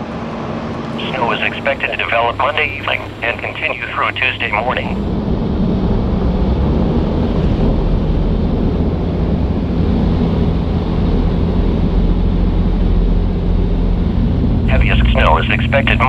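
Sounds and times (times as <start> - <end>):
road and wind noise: 0.0 - 16.0
vehicle engine hum: 0.0 - 16.0.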